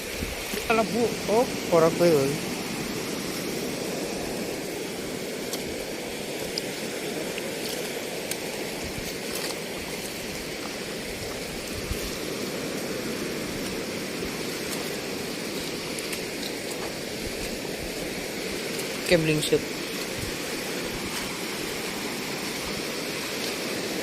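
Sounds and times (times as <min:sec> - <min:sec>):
sea water washing over rocks: 0:00.0 - 0:24.0.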